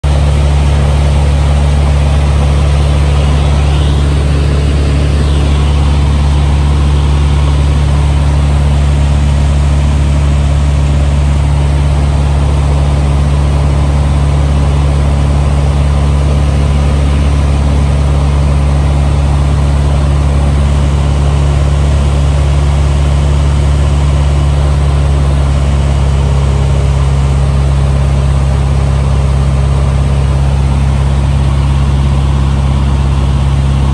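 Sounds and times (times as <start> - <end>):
aircraft engine and propeller drone: 0.0 - 33.9.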